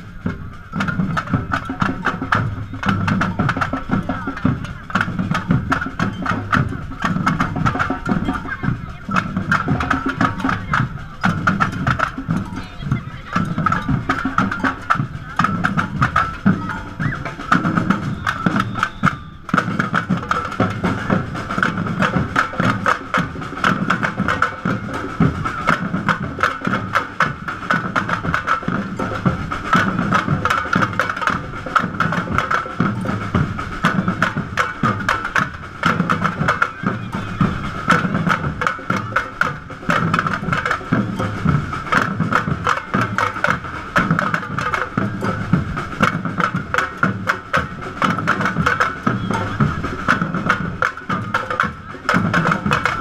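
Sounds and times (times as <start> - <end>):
drum group playing: 0.0 - 53.0.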